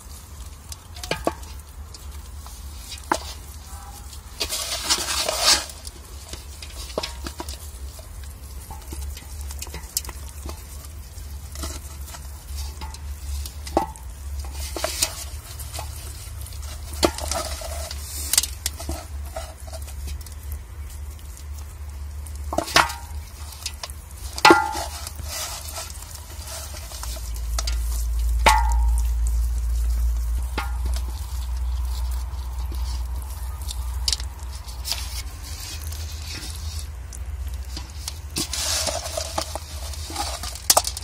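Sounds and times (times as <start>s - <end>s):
hands squishing wet marinade: 0.0s - 41.0s.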